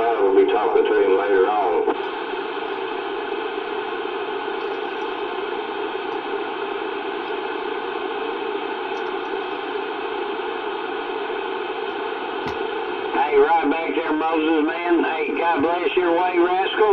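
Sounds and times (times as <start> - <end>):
radio static hiss: 0.0 - 16.9.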